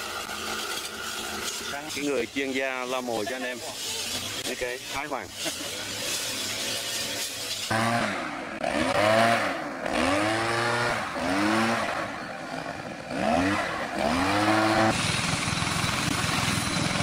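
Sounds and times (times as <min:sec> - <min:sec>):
leaf blower engine revving: 0:00.0 - 0:17.0
pressure washer engine drone: 0:00.0 - 0:17.0.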